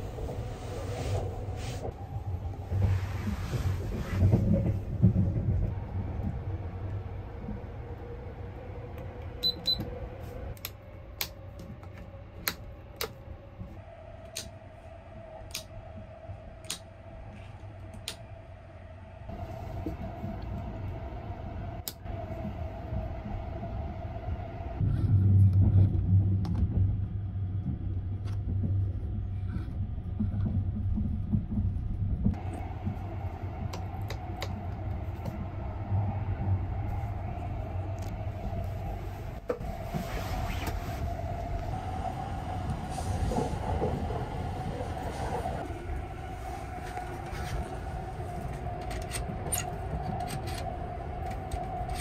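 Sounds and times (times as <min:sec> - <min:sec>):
faint hum rising in pitch: 0:00.0 - 0:52.0
train rumble: 0:00.0 - 0:52.0.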